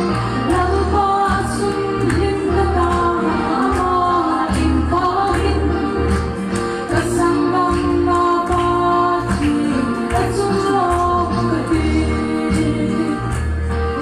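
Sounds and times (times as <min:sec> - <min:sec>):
woman singing into microphone: 0:00.2 - 0:14.0.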